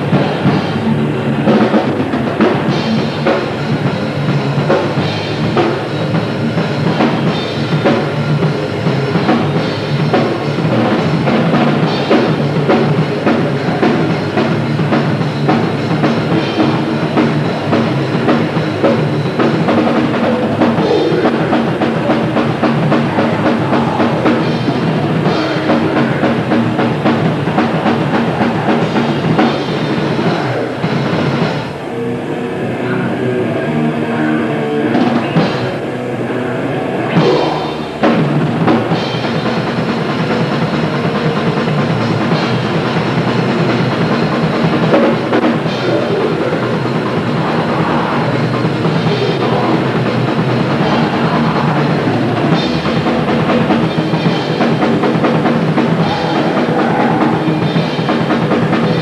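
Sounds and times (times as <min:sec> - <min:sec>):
grindcore band playing live: 0:00.0 - 0:59.0.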